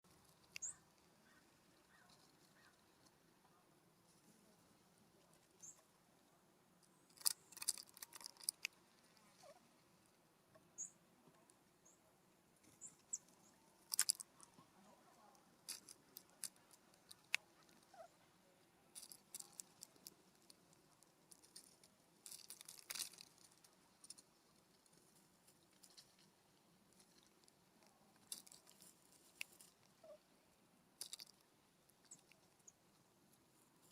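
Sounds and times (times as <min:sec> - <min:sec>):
birds pecking and scratching seed: 0:00.0 - 0:33.9.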